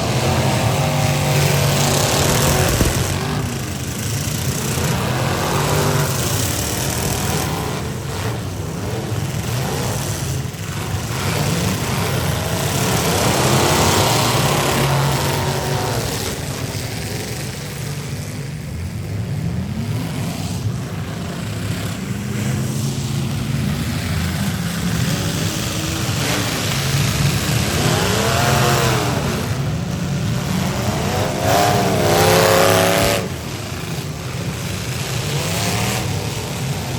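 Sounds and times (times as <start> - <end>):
car engines revving: 0.0 - 36.9.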